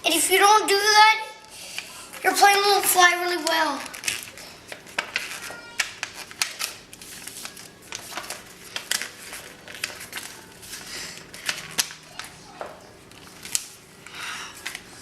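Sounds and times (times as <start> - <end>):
paper rustling and creasing: 2.2 - 15.0.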